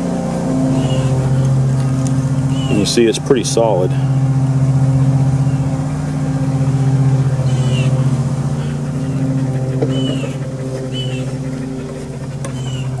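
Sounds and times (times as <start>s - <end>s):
small gasoline engine droning: 0.0s - 13.0s.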